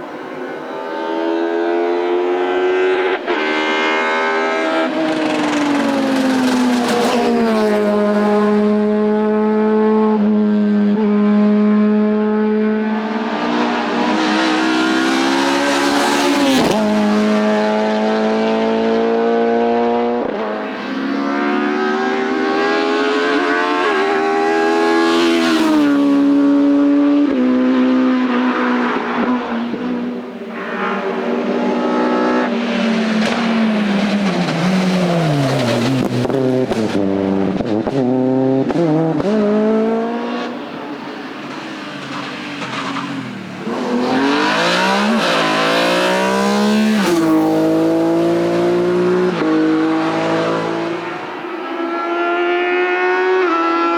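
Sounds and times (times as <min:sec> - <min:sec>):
racing car engine at full throttle: 0:00.0 - 0:53.9.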